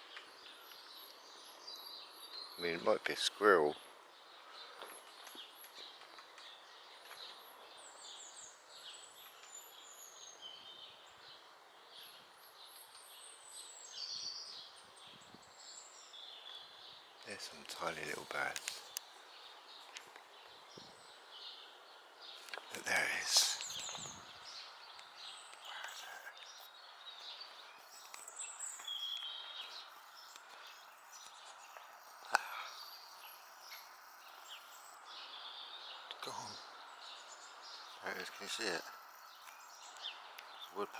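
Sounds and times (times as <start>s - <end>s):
background hiss: 0.0s - 40.9s
songbirds chirping and trilling: 0.0s - 40.9s.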